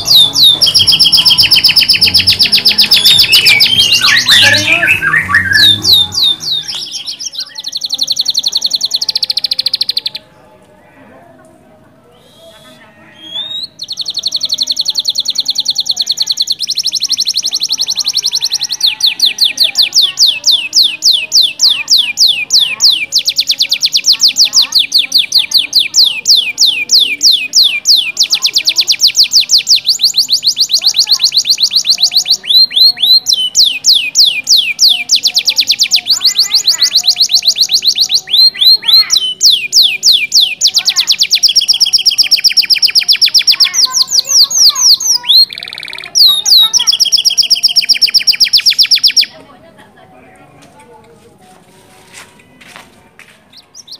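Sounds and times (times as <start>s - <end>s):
canary singing trills: 0.0s - 10.4s, 12.1s - 49.4s, 53.5s - 53.9s.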